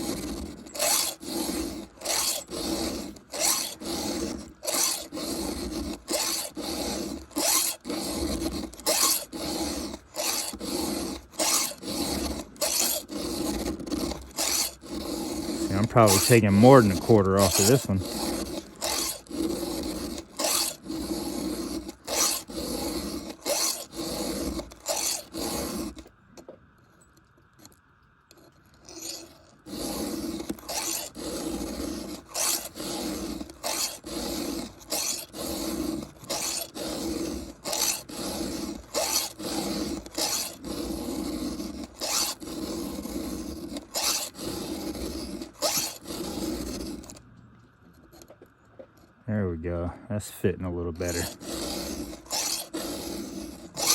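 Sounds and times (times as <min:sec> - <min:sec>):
round file filing chainsaw chain: 0:00.0 - 0:26.1, 0:27.6 - 0:47.2, 0:50.9 - 0:53.9.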